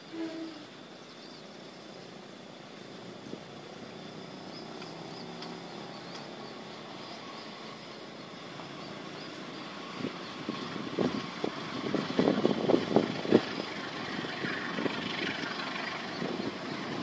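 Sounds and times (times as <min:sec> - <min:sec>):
hiss: 0:00.0 - 0:17.0
train rumbling in tunnel: 0:00.0 - 0:17.0.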